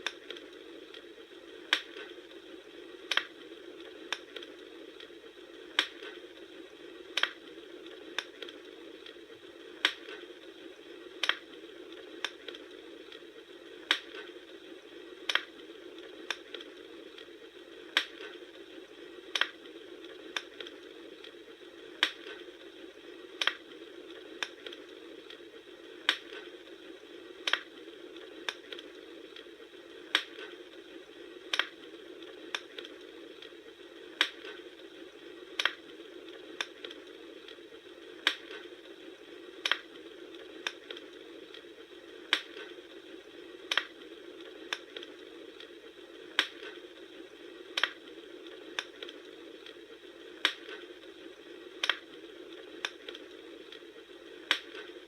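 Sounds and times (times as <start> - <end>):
soft rush of burning: 0.0 - 55.0
wood fire popping: 0.0 - 55.0.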